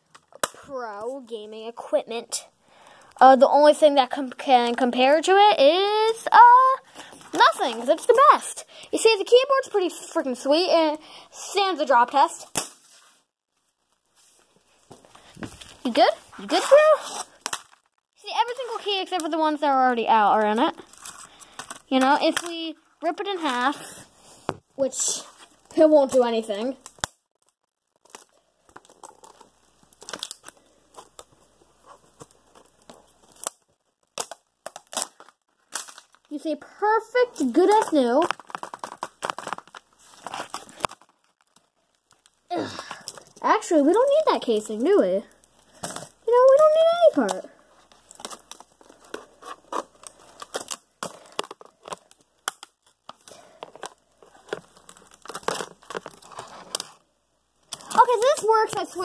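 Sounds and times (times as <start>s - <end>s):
plastic and tape crackling: 0.0s - 59.0s.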